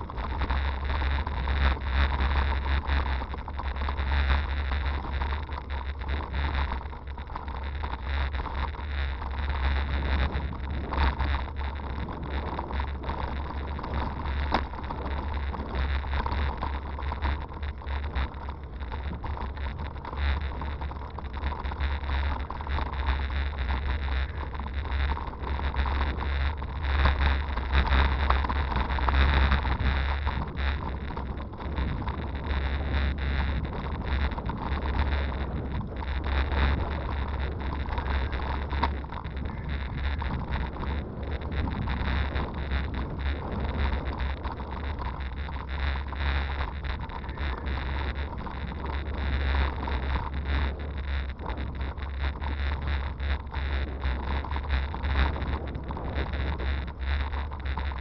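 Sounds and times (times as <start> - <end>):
bicycle knocks and rattles: 0.0 - 58.0
bicycle riding rumble: 0.0 - 58.0
wind buffeting microphone: 0.0 - 58.0.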